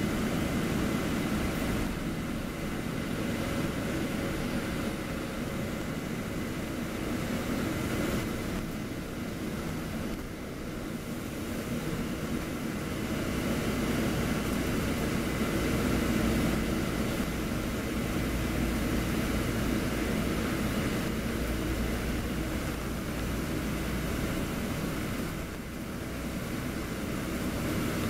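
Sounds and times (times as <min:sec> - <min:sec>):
bus engine drone: 0:00.0 - 0:28.0
road rumble: 0:00.0 - 0:28.0.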